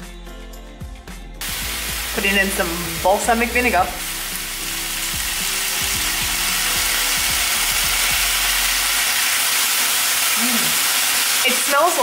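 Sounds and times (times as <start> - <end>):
potatoes sizzling in a pan: 1.4 - 12.0.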